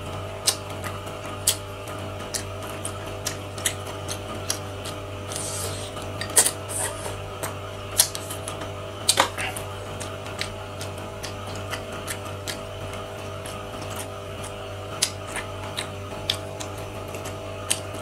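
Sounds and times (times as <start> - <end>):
chewing crunches and smacks: 0.0 - 18.0.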